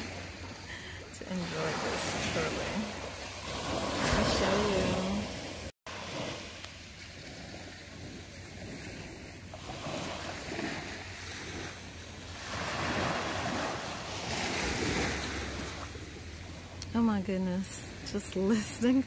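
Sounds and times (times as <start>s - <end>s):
small waves breaking on beach: 0.0s - 19.0s.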